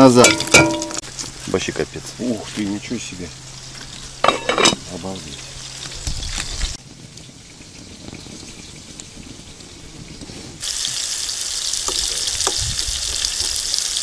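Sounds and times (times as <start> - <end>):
fish sizzling in oil: 0.0 - 1.7, 2.8 - 14.0.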